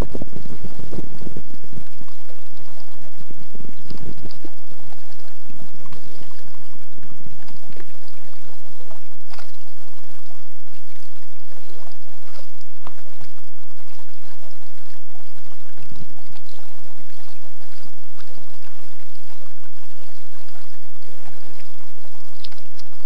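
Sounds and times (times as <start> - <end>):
kayak paddle splashing water: 0.0 - 23.0.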